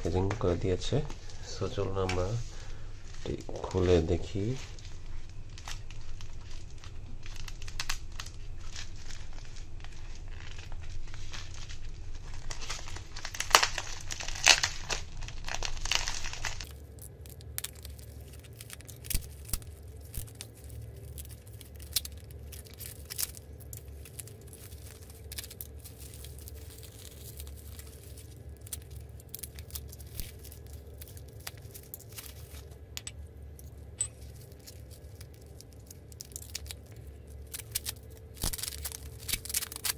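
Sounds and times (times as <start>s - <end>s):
bubble wrap crinkling and tearing: 0.0s - 39.9s
low steady hum: 0.0s - 39.9s.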